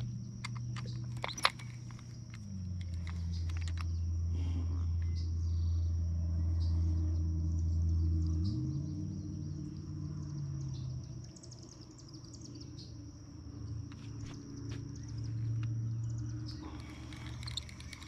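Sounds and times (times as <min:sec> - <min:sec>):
high insect trill: 0:00.0 - 0:04.3, 0:05.2 - 0:18.0
low engine drone: 0:00.0 - 0:18.0.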